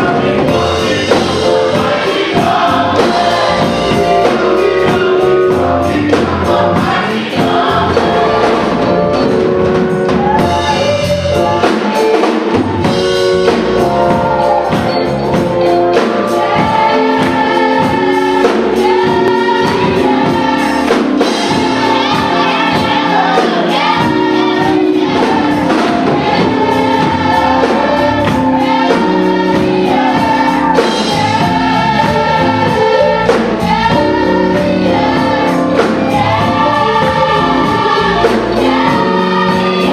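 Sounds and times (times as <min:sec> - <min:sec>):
band accompaniment: 0:00.0 - 0:39.9
drums beating: 0:00.0 - 0:39.9
gospel choir singing: 0:00.0 - 0:39.9.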